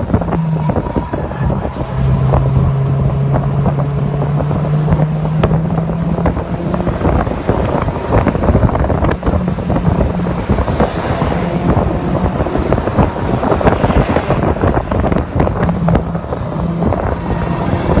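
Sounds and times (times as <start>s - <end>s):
car engine running: 0.0s - 18.0s
wind buffeting microphone: 0.0s - 18.0s.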